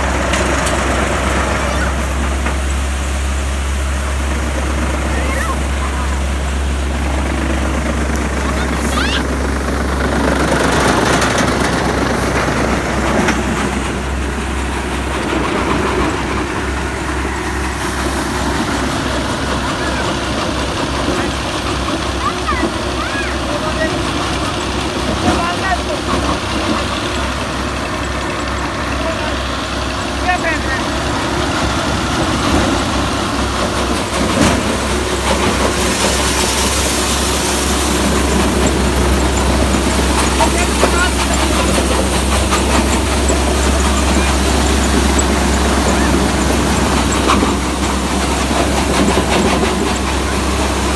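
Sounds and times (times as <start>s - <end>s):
thresher machine rushing: 0.0s - 50.9s
tractor engine drone: 0.0s - 50.9s.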